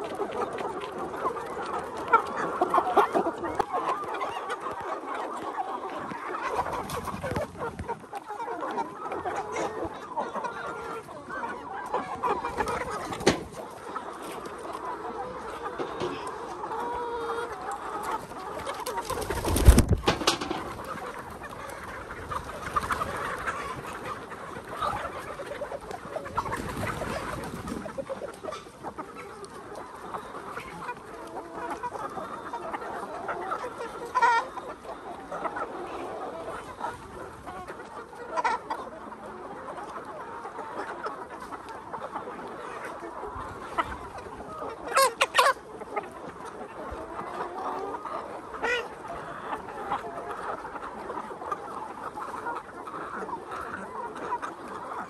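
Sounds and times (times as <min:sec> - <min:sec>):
chickens and roosters clucking: 0:00.0 - 0:55.0.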